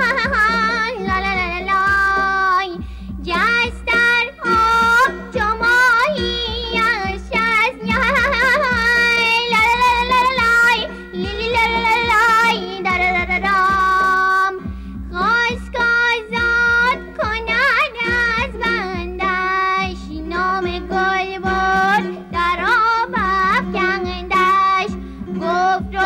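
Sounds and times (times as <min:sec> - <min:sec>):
backing music with low beat: 0:00.0 - 0:26.0
high voice singing with vibrato: 0:00.0 - 0:26.0.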